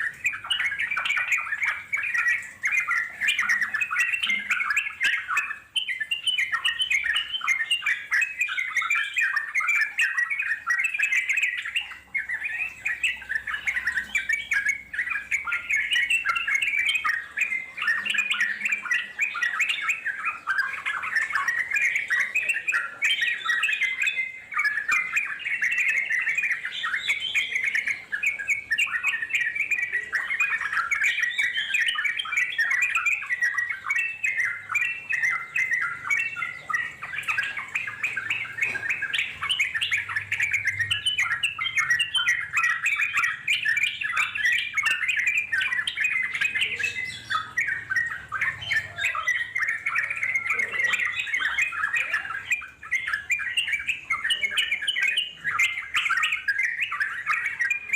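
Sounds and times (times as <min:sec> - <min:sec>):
bird singing chattering notes: 0:00.0 - 0:57.9.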